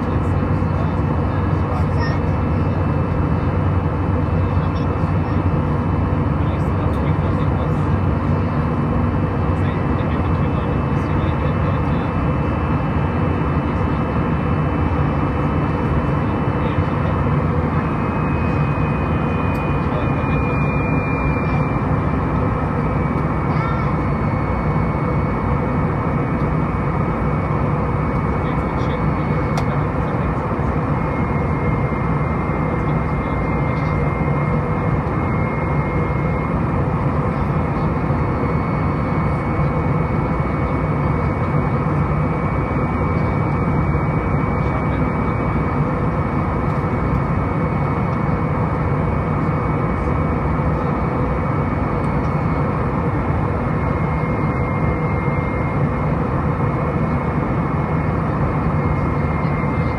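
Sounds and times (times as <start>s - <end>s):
jet engine drone: 0.0s - 59.9s.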